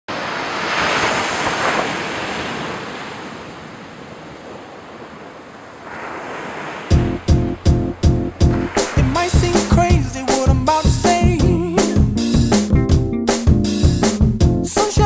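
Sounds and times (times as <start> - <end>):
ocean waves breaking: 0.1 - 12.7.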